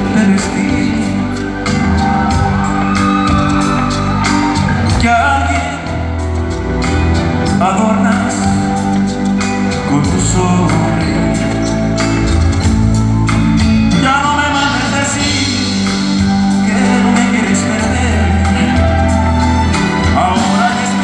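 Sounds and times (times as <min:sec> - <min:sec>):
live band playing a ballad: 0:00.0 - 0:21.0
person singing: 0:00.0 - 0:21.0.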